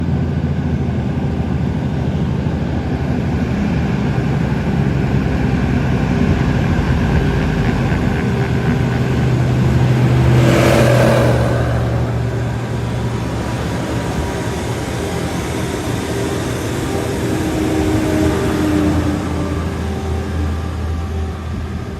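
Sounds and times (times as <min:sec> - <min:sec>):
engine running: 0:00.0 - 0:21.9.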